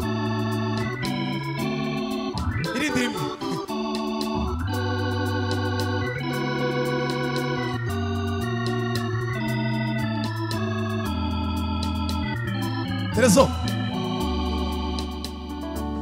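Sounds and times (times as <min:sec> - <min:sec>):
organ keyboard chords: 0:00.0 - 0:16.0.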